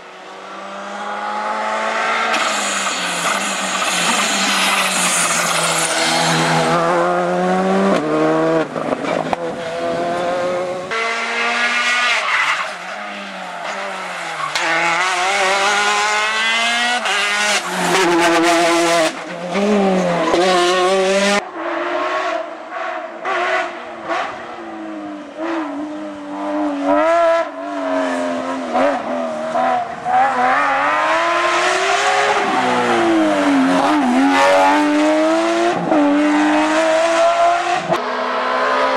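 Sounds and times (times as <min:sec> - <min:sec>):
rally car engines revving: 0:00.0 - 0:38.9.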